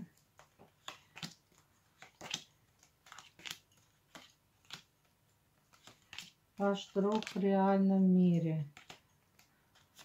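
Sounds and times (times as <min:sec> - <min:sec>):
cards being shuffled and dealt: 0:00.0 - 0:10.0.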